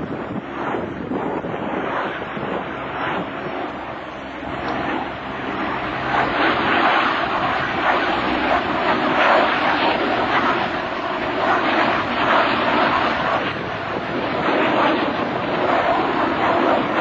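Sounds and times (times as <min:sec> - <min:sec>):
aircraft engines rushing: 0:00.0 - 0:17.0.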